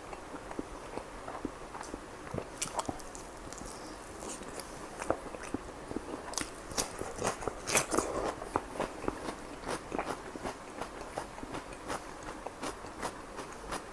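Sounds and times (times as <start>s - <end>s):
person chewing food: 0.0s - 13.9s.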